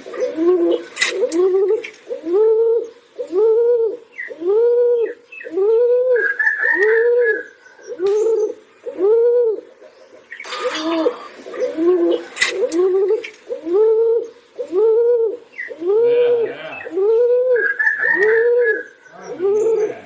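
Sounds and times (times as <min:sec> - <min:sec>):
pigeon cooing: 0:00.0 - 0:20.0.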